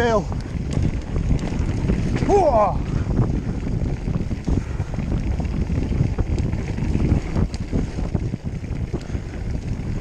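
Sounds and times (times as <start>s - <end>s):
mountain bike rattling over trail: 0.0s - 10.0s
wind buffeting microphone: 0.0s - 10.0s.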